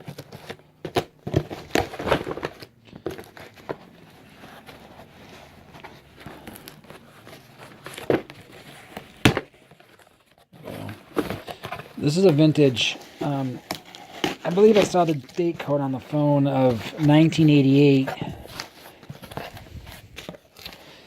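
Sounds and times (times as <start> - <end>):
box and packing torn open: 0.0 - 5.0, 5.8 - 21.0
packing rustling: 0.0 - 21.0.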